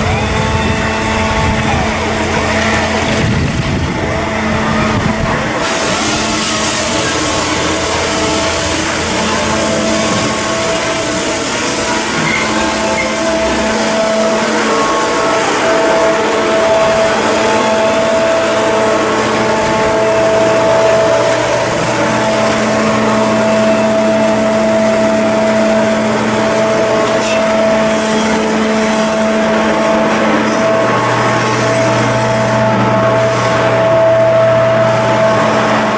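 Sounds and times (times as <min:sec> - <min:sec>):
machinery humming: 0:00.0 - 0:35.9.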